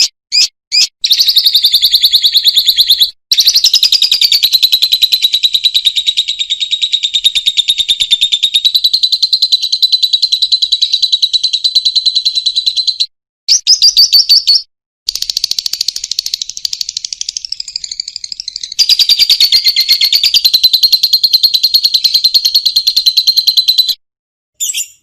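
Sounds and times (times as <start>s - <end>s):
lovebird chattering trill: 0.0s - 24.0s.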